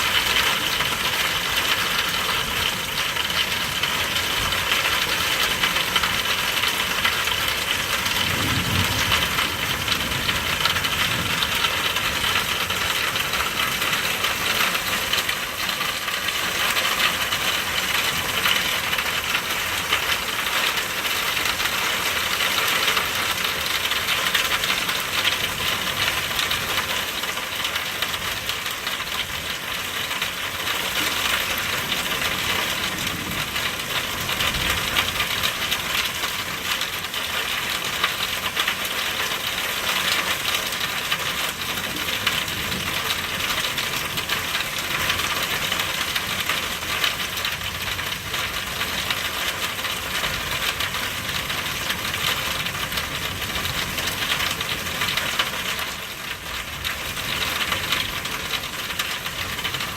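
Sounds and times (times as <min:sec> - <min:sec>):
rain on hard surfaces: 0:00.0 - 0:59.9.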